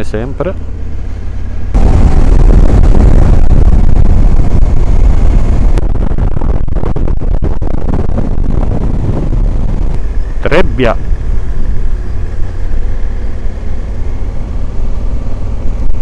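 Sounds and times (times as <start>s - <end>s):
motorcycle engine running: 0.1s - 16.0s
wind rush on microphone: 0.6s - 16.0s.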